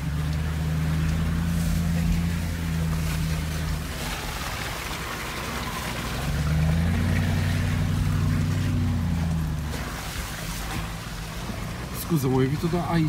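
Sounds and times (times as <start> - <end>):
engine heard from cabin: 0.0 - 13.0
tyre road noise: 0.0 - 13.0.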